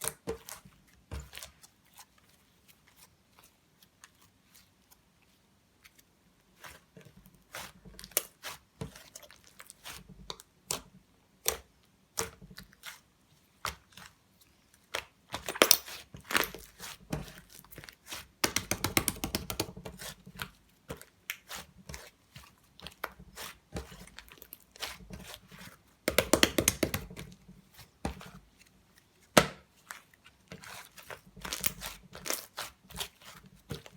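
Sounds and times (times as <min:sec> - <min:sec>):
hands squishing slime: 0:00.0 - 0:33.9.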